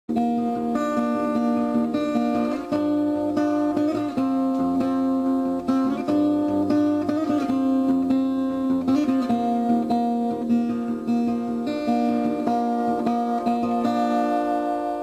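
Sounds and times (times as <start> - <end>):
acoustic guitar plucked notes: 0.1 - 15.0.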